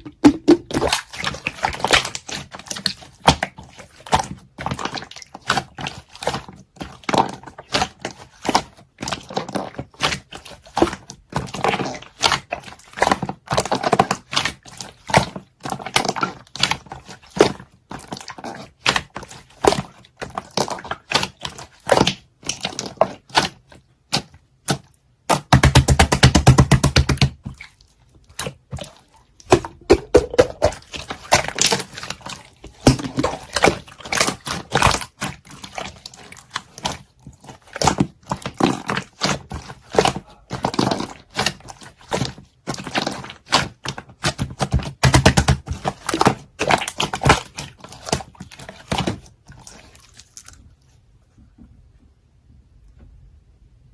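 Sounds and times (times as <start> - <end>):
slime squeezed with wet pops: 0.0 - 50.6.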